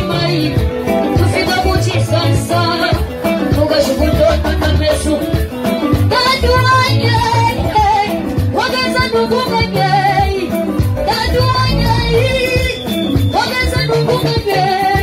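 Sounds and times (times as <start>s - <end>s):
live band playing dance music: 0.0s - 15.0s
person singing: 0.0s - 15.0s.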